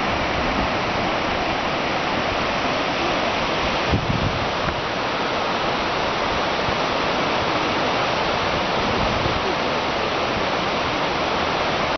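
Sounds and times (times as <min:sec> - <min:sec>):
mountain river rushing: 0:00.0 - 0:11.9.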